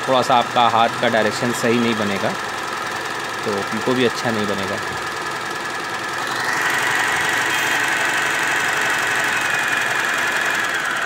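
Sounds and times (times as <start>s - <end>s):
electric sewing machine stitching: 0.2s - 11.0s.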